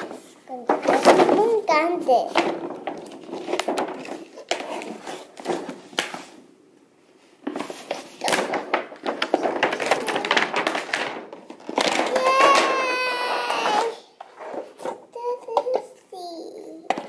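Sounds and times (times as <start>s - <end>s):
cardboard and packing rustling: 0.0s - 6.5s, 7.2s - 15.5s.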